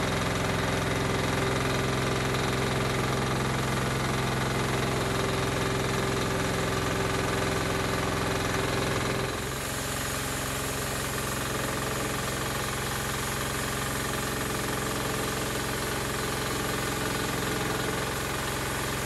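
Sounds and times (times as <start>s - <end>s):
sawmill engine running: 0.0s - 19.0s.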